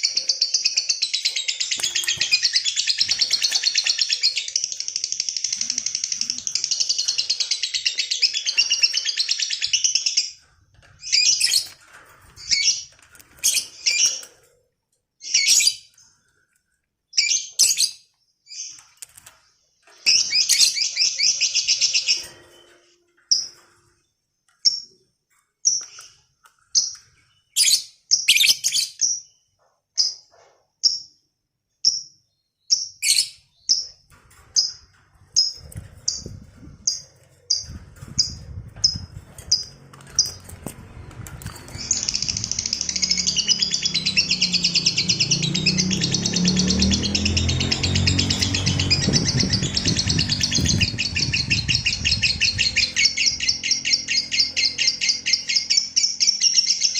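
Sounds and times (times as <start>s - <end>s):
lovebird chirping and trilling: 0.0s - 10.4s, 11.0s - 14.3s, 15.2s - 16.0s, 17.1s - 18.8s, 20.0s - 22.7s, 25.6s - 30.2s, 31.8s - 34.0s, 35.4s - 56.9s.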